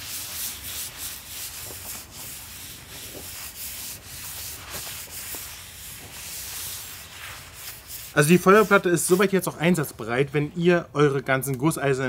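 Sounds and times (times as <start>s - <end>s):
paper towel wiping steel plate: 0.0s - 10.2s.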